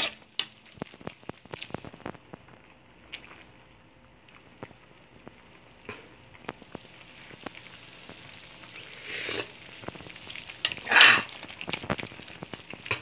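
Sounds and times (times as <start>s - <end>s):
broth simmering in a wok: 0.0s - 13.0s.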